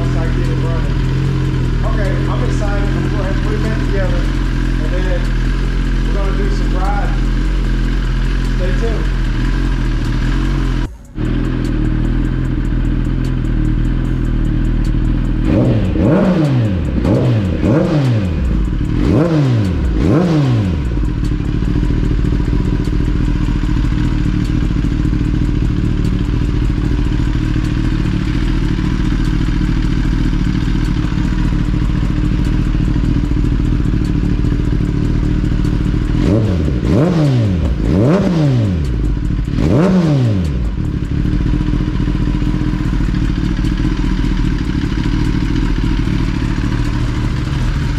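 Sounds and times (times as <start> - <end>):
engine throttle blips: 0.0 - 47.9
motorcycle engine idling: 0.0 - 47.9.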